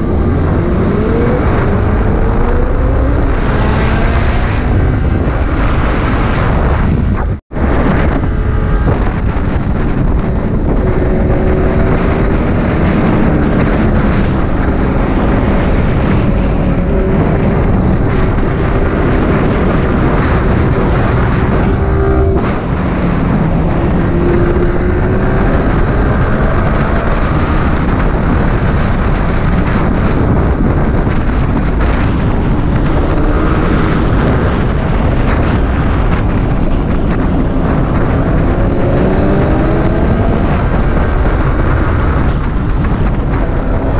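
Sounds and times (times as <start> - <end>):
motorcycle engine accelerating: 0.0 - 43.9
wind noise on microphone: 0.0 - 43.9.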